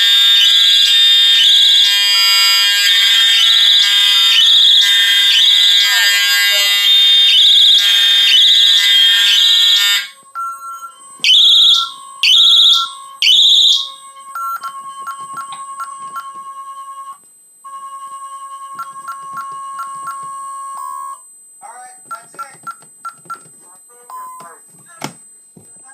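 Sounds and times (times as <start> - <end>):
fire alarm horns pulsing: 0.0 - 21.2.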